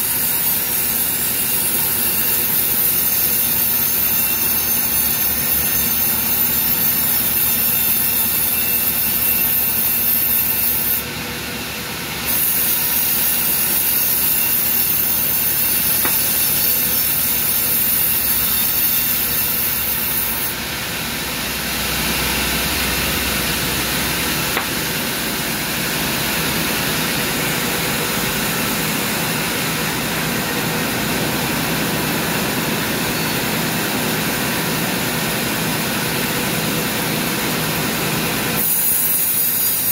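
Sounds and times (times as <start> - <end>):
band saw cutting a log: 0.0 - 39.9.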